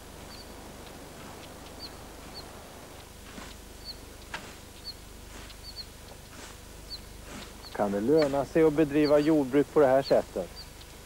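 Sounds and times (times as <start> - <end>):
bird chirping: 0.2 - 2.6, 3.8 - 4.1, 4.7 - 11.0.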